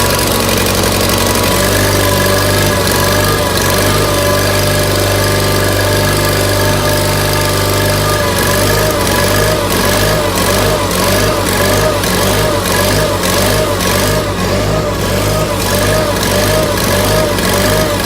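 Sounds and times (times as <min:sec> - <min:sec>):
garden tractor engine running: 0:00.0 - 0:18.0.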